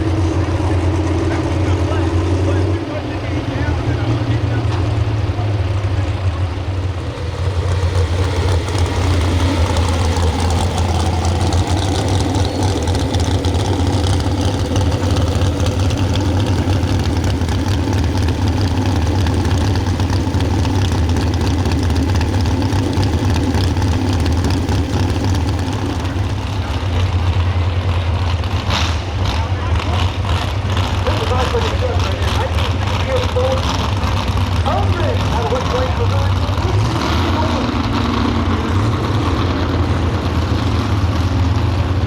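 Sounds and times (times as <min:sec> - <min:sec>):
truck engine running loud: 0:00.0 - 0:42.0.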